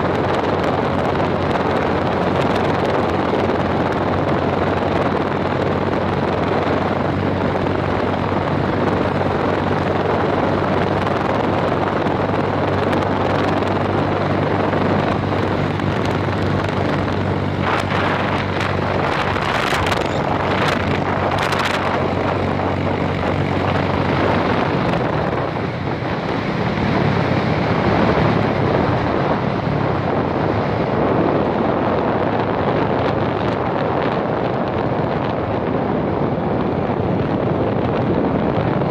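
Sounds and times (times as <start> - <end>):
motorcycle engine droning: 0.0 - 38.9
wind rushing over microphone: 0.0 - 38.9.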